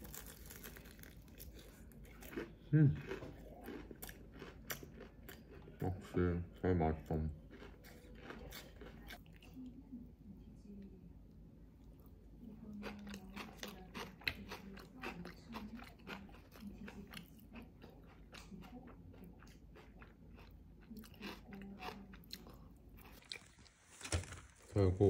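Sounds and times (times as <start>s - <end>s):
person chewing crispy chicken: 0.0s - 6.2s, 7.0s - 9.6s, 12.8s - 24.4s.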